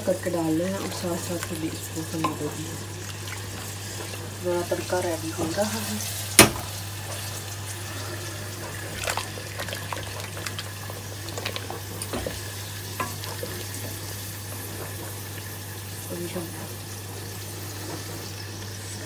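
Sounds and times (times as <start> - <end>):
onions sizzling in hot oil: 0.0 - 19.0
pot bubbling: 0.0 - 19.0.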